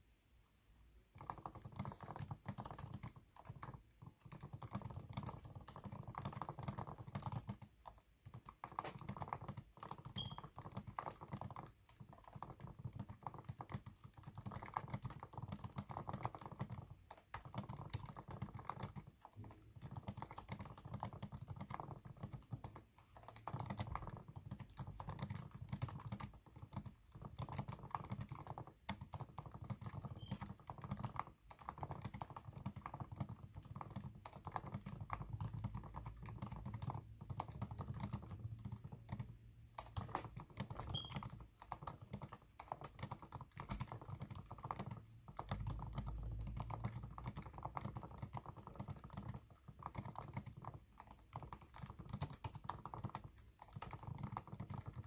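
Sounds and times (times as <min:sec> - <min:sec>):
fast typing on keyboard: 0:01.1 - 0:55.0.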